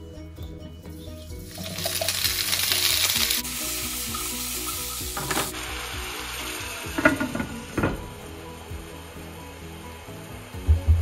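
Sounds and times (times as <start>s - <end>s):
potatoes sizzling in frying pan: 1.4s - 10.7s.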